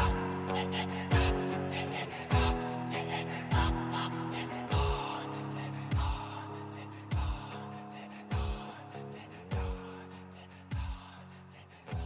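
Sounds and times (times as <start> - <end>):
sustained guitar or synth chords: 0.0 - 10.0
quick hi-hat ticks: 0.0 - 12.0.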